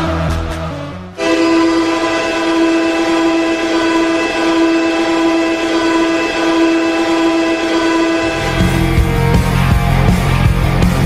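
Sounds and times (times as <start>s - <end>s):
goal horn blast: 1.2s - 10.5s.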